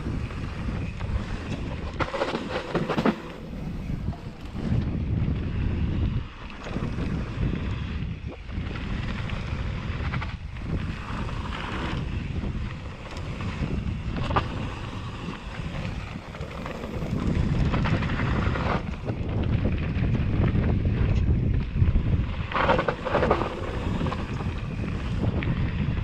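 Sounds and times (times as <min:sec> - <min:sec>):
bike knocks and rattles: 0:00.0 - 0:05.9, 0:06.6 - 0:26.0
bike rolling rumble: 0:00.0 - 0:26.0
wind buffeting microphone: 0:00.0 - 0:26.0.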